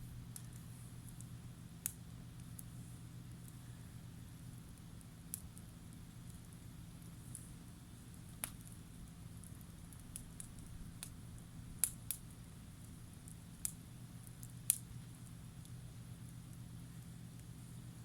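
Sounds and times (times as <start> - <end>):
campfire crackling: 0.0 - 18.0
firewood popping: 0.0 - 18.0
low steady hum: 0.0 - 18.0.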